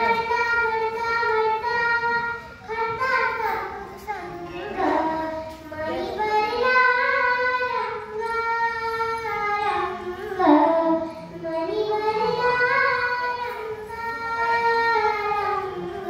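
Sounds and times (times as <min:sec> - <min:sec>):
girl singing into a microphone: 0:00.0 - 0:16.0.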